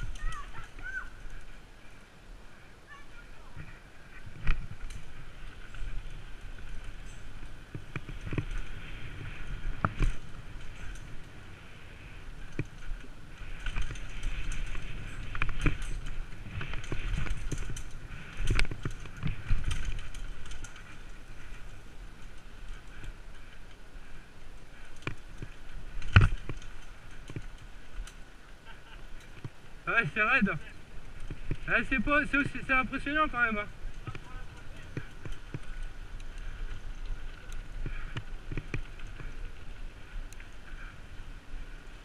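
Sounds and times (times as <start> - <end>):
bike rattling: 0.0 - 42.0
bike tyres on rough dirt: 0.0 - 42.0.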